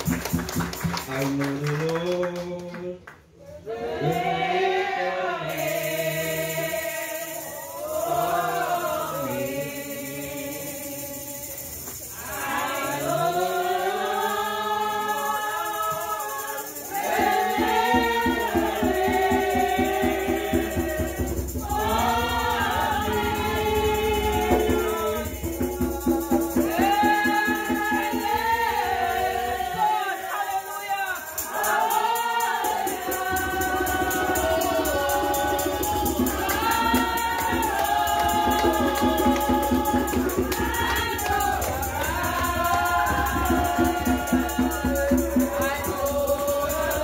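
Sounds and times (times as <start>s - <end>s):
rhythmic shakes or claps: 0.0s - 3.3s, 5.4s - 47.0s
congregation singing gospel song: 0.0s - 47.0s.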